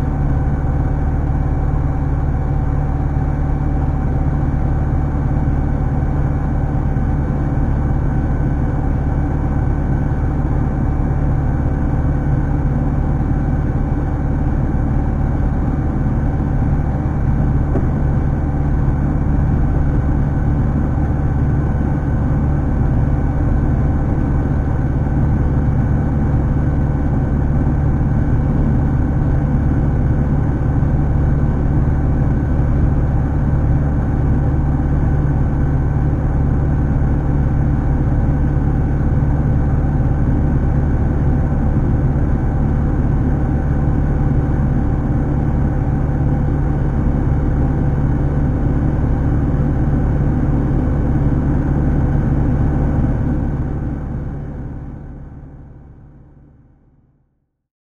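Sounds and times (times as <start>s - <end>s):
airplane engine and propeller: 0.0s - 56.7s.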